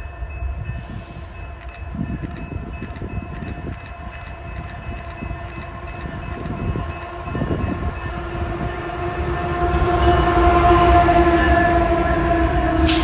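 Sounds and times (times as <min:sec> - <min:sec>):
locomotive engine hum: 0:00.0 - 0:13.0
train low rumble: 0:00.0 - 0:13.0.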